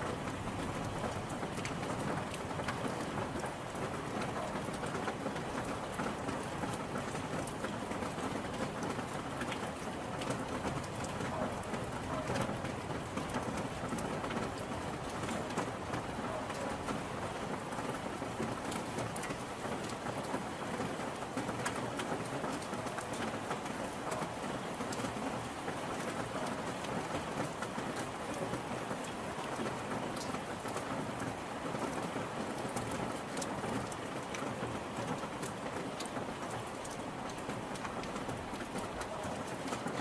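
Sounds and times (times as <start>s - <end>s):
steady rain with drops ticking: 0.0s - 40.0s.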